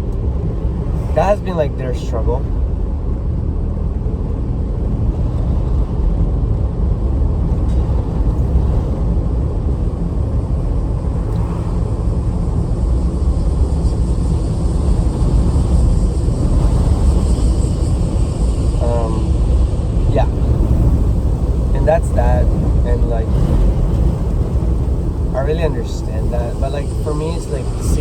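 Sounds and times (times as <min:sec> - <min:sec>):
strong wind buffeting microphone: 0:02.4 - 0:28.0.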